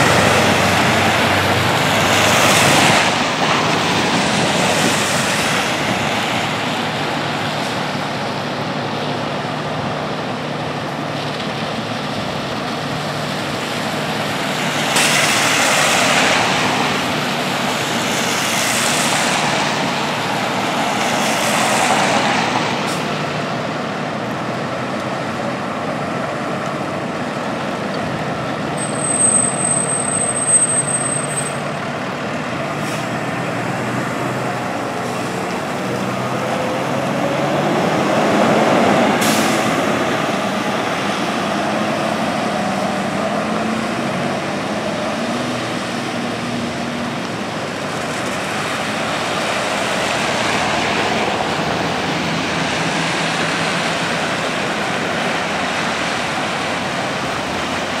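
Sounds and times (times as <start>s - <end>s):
diesel engines driving away: 0.0s - 58.0s
tyres hissing on wet road: 0.0s - 58.0s.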